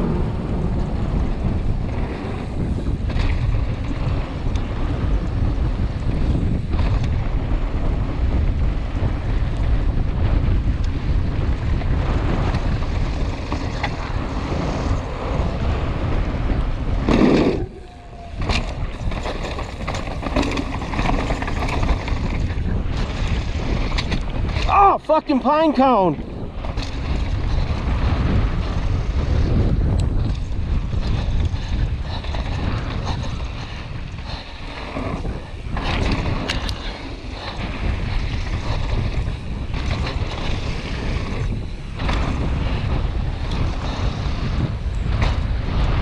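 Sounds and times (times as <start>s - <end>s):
bike knocking and rattling: 0.0s - 46.0s
tyres on dirt trail: 0.0s - 46.0s
wind rushing on microphone: 0.0s - 46.0s.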